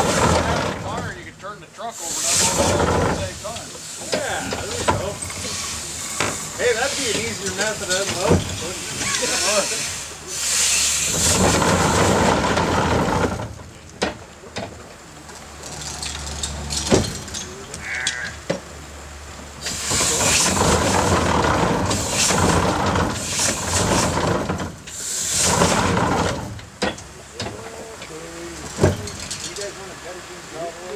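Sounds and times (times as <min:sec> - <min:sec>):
steam engine exhaust and hiss: 0:00.0 - 0:14.9, 0:18.8 - 0:30.9.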